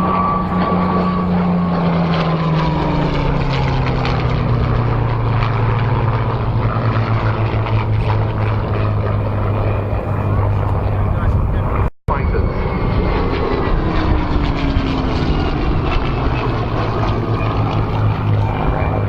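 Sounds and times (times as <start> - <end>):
propeller plane engine flying past: 0.0 - 19.0.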